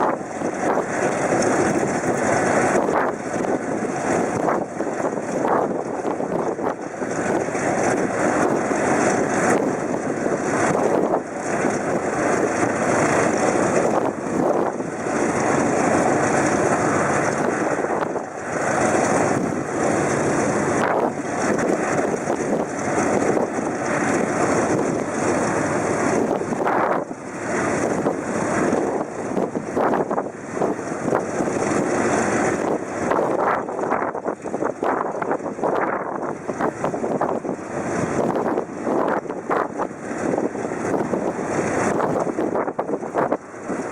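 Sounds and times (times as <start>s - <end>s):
piston aircraft engines running: 0.0s - 43.9s
wind buffeting microphone: 0.0s - 43.9s.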